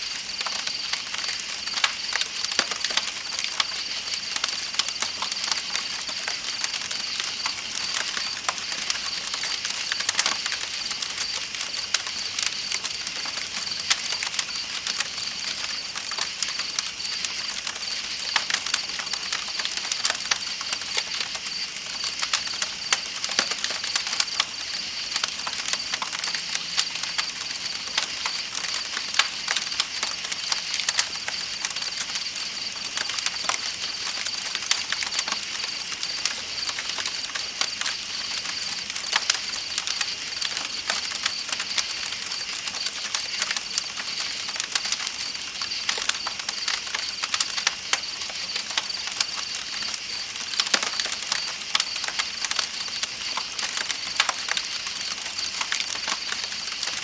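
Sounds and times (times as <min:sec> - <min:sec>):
campfire crackling and popping: 0:00.0 - 0:57.0
night insects trilling: 0:00.0 - 0:57.0.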